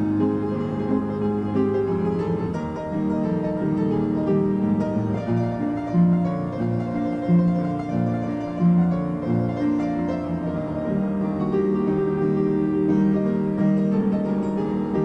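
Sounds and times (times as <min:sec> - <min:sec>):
piano playing old-time song: 0:00.0 - 0:15.0.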